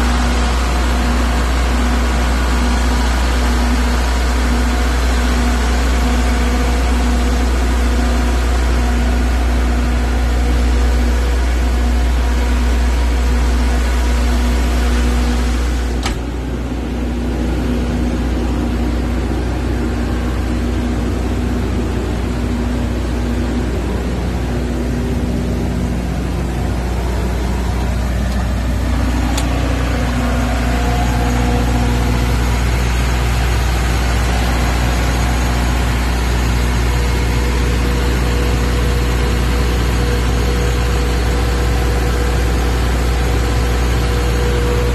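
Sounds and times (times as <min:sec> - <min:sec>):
diesel generator droning: 0:00.0 - 0:44.9.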